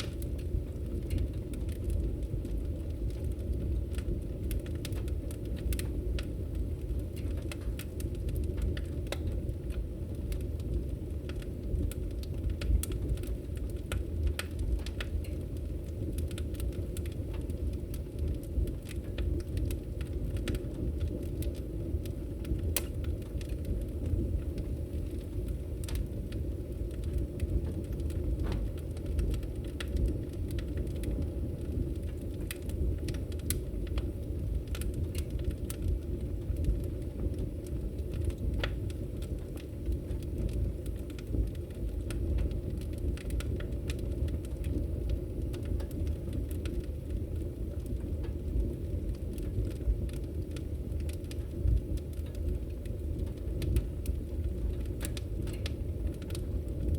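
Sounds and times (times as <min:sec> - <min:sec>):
fire crackling and popping: 0:00.0 - 0:56.9
fire flames rumbling: 0:00.0 - 0:56.9.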